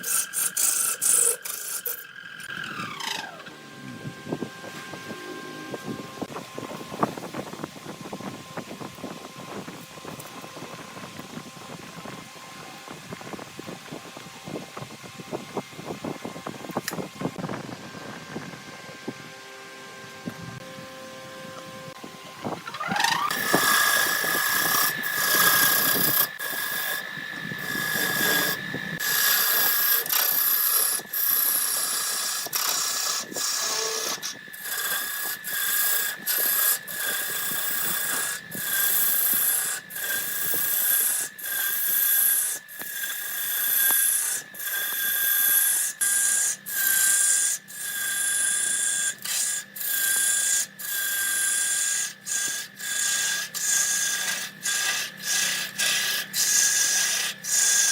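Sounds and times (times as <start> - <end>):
turning tool cutting wood: 0.0 - 19.1, 21.9 - 57.9
wood lathe whining: 0.0 - 57.9.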